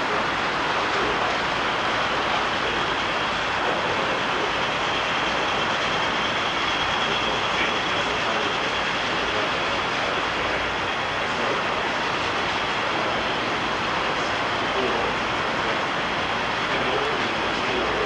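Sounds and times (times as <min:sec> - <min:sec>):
faint high whine: 0:00.0 - 0:18.0
train rumbling on track: 0:00.0 - 0:18.0.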